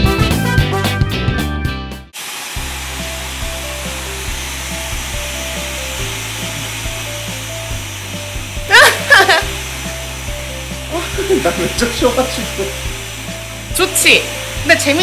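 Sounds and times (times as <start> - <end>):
loud guitar music: 0.0 - 15.0
hair dryer blowing: 2.2 - 15.0
soft background music: 2.6 - 15.0.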